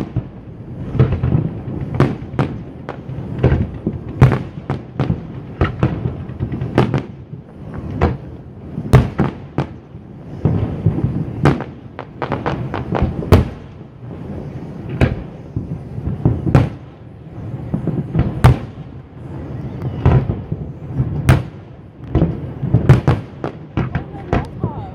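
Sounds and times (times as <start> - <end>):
firework shells bursting: 0.0 - 24.7.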